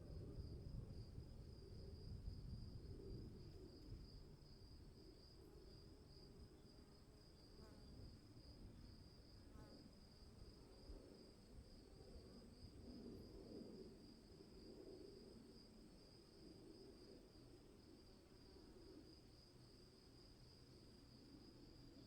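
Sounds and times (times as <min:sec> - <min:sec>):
crickets chirping: 0:00.0 - 0:22.0
low steady background noise: 0:00.0 - 0:22.0.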